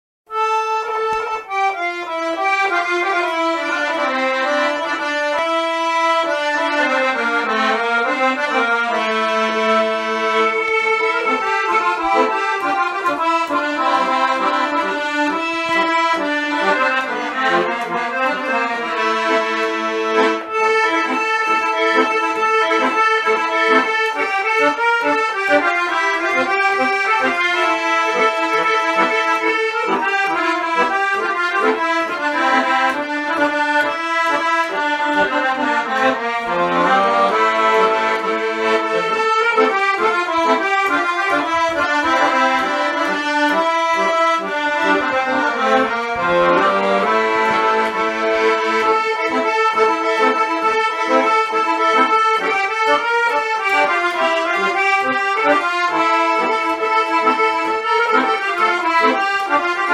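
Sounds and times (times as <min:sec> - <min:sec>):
accordions playing dance tune: 0:00.3 - 0:59.9.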